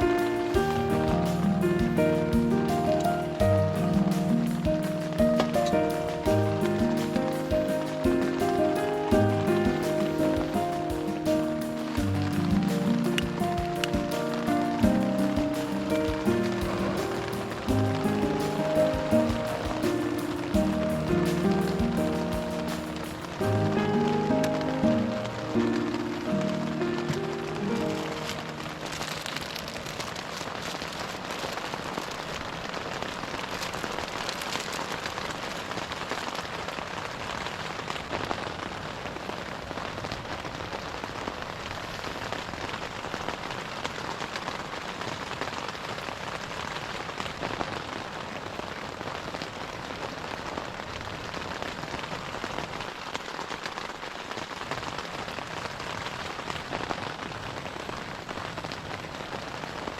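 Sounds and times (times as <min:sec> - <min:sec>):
gentle rain falling: 0:00.0 - 0:59.9.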